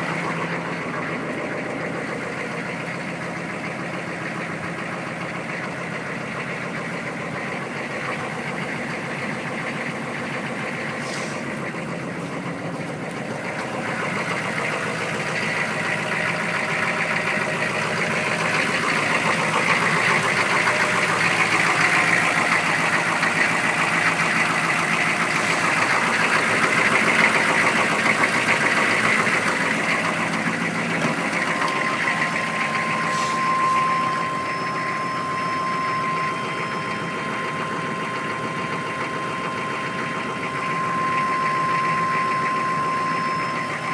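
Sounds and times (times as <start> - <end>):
diesel engine idling: 0.0 - 43.9
steady high tone: 0.0 - 43.9.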